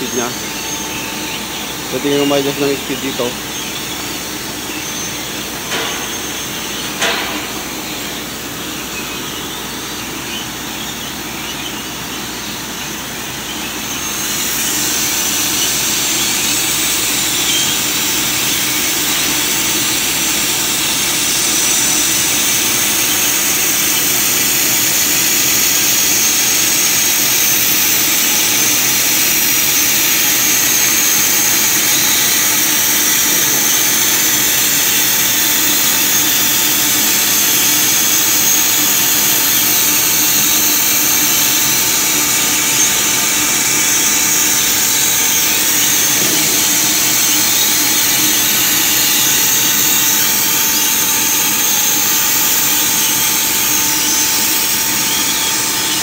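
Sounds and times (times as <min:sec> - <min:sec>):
faint machine whine: 0:00.0 - 0:56.0
laser cutting jet hissing: 0:00.0 - 0:56.0.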